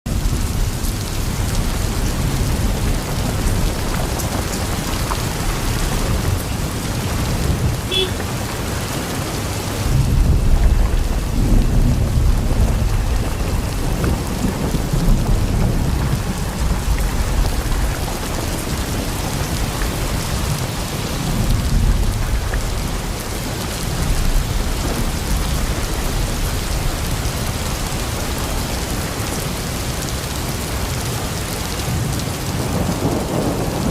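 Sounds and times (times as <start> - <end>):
heavy rain: 0.0 - 33.9
thunder rumbling: 0.1 - 33.9.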